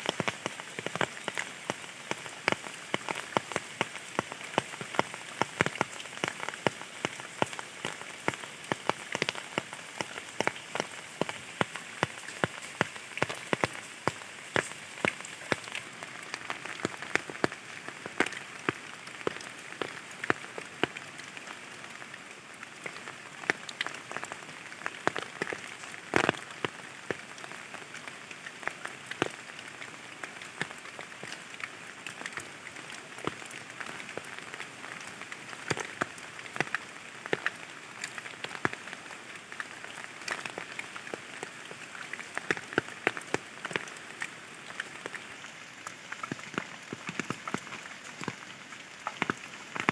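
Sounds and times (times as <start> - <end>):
raindrops striking close by: 0.0 - 49.9
steady rain falling: 0.0 - 49.9.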